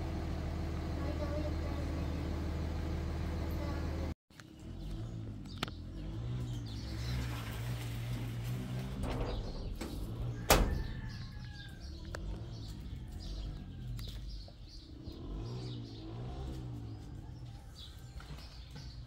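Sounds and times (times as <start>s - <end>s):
small birds chirping: 3.6s - 19.0s.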